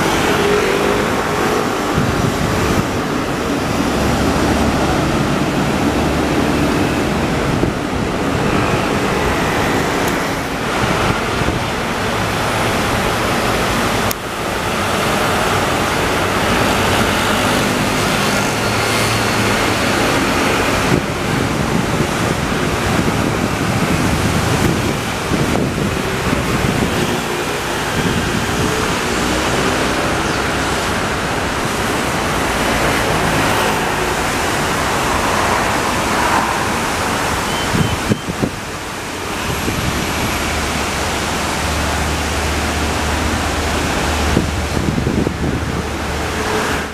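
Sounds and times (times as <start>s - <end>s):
passing traffic engines: 0.0s - 46.9s
wind on microphone: 0.0s - 46.9s.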